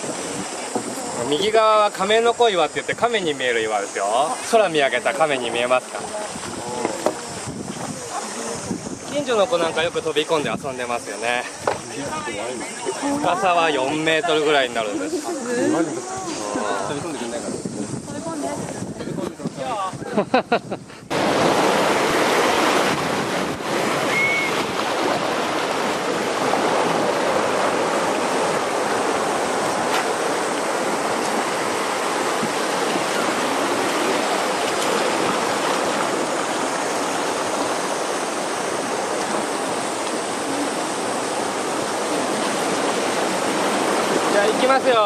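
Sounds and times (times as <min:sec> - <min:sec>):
river rapids rushing: 0:00.0 - 0:17.4, 0:21.1 - 0:45.0.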